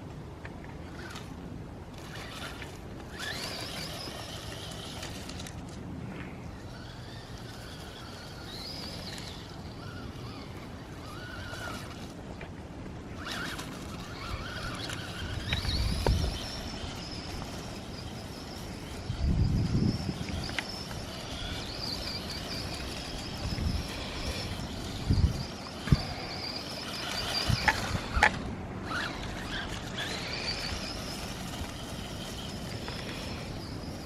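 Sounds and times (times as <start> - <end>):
electric motor whining: 1.9 - 5.7, 6.4 - 12.2, 13.1 - 34.0.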